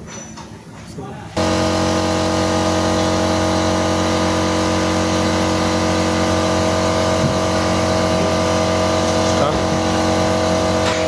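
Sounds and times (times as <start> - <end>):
motor humming steadily: 1.2 - 11.0.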